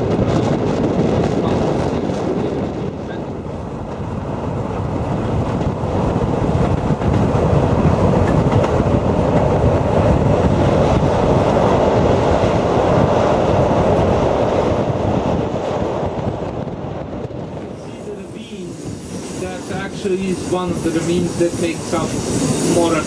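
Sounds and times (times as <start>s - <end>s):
train rumbling over viaduct: 0.0s - 23.0s.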